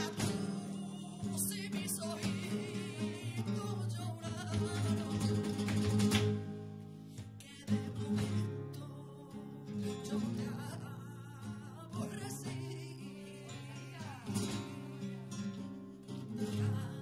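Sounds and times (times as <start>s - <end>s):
flamenco guitar playing: 0.0s - 17.0s.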